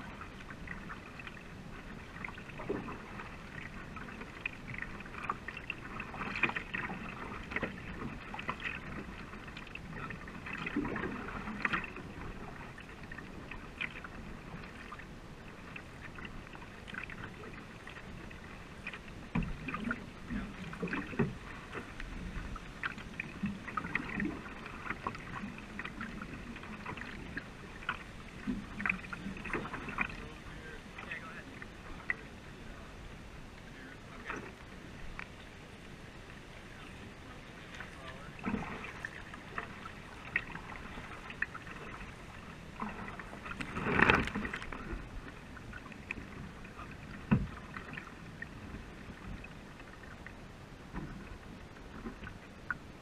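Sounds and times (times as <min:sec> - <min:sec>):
paddle stroke splashes: 0:00.0 - 0:53.0
water splashing along hull: 0:00.0 - 0:53.0.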